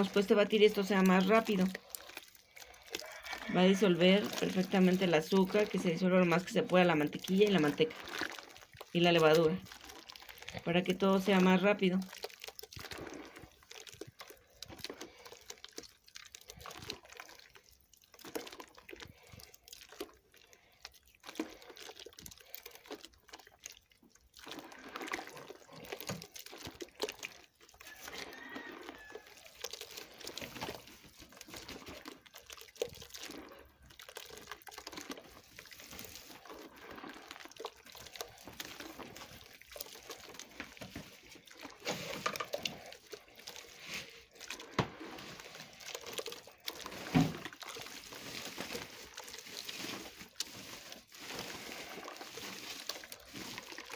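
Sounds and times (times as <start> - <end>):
hands squelching wet mixture: 0.0 - 53.9.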